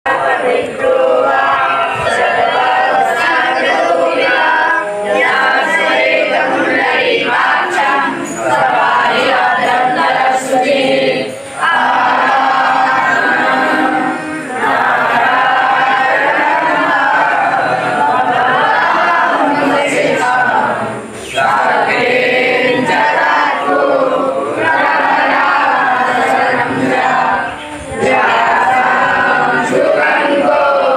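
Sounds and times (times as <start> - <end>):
group chanting in unison: 0.1 - 30.9.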